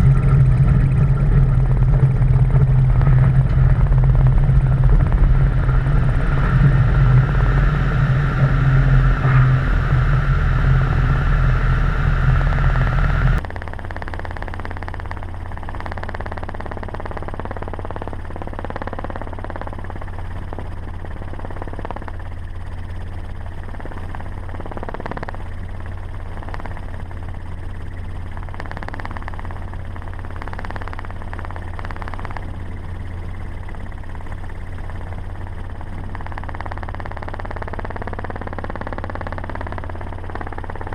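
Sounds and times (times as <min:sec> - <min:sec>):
helicopter rotor and engine: 0:00.0 - 0:40.9
truck engine running: 0:00.0 - 0:40.9.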